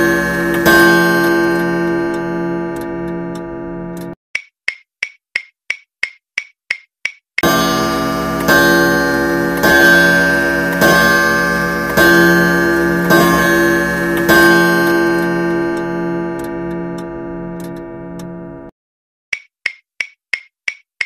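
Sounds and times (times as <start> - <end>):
clock-like ticking strikes: 0.0 - 18.7.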